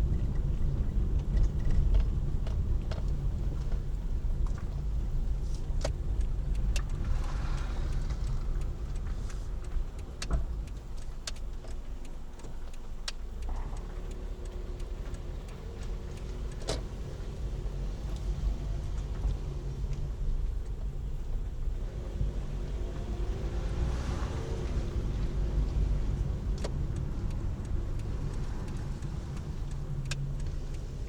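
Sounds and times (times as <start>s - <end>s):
sharp clicks and knocks: 0.0s - 21.4s, 24.5s - 31.0s
car road and engine rumble: 0.0s - 31.0s.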